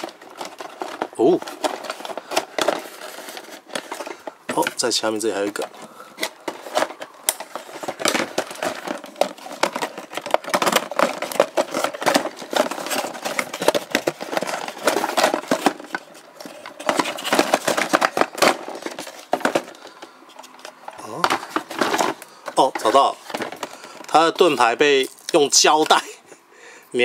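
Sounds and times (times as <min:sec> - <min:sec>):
cardboard and plastic packaging rustling: 0:00.0 - 0:26.2.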